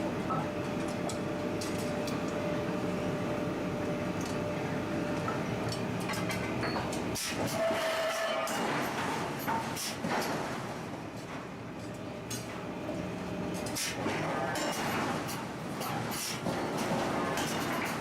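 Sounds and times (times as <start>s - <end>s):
machinery rumble and hum: 0.0s - 18.0s.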